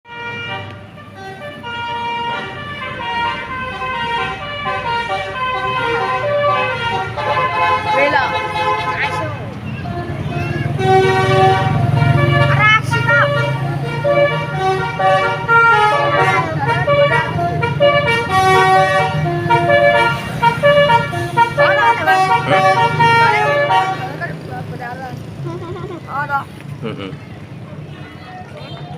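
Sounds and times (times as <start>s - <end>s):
multi-tone bus horn melody: 0.1s - 24.5s.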